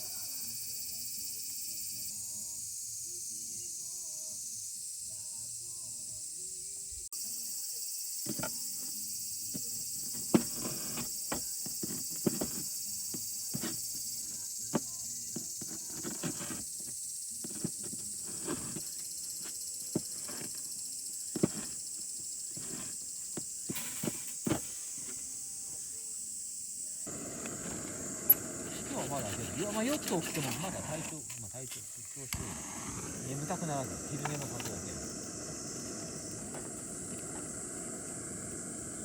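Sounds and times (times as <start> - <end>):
insects chirring: 0.0 - 39.0.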